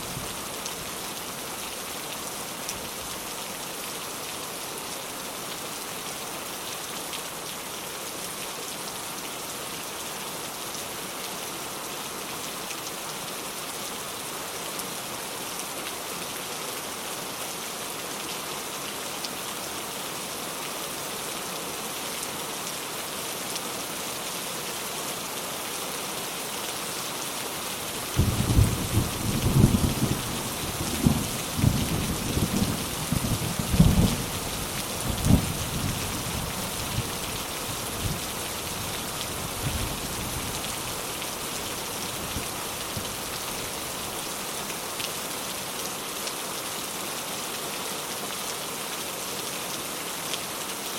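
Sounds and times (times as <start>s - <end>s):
steady rain: 0.0s - 50.9s.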